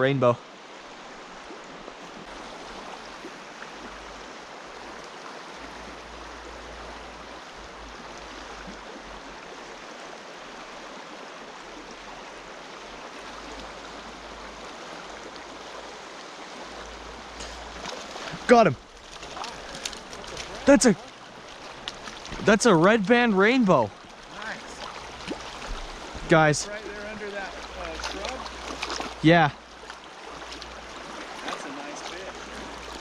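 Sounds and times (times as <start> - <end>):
river rushing over stones: 0.4 - 33.0.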